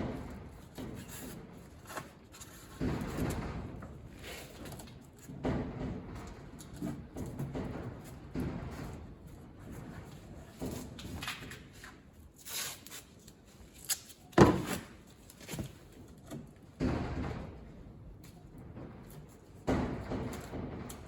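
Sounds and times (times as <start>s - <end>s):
knocks and thuds: 0.0s - 11.3s, 14.3s - 21.0s.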